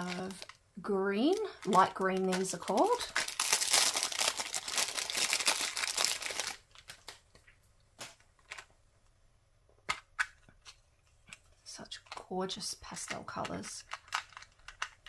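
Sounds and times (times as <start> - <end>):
plastic wrap crinkling: 0.0 - 8.8, 11.3 - 15.0.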